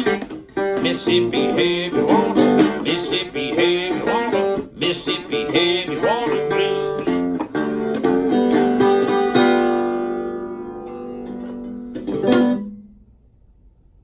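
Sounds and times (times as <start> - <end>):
slide blues guitar: 0.0 - 12.9.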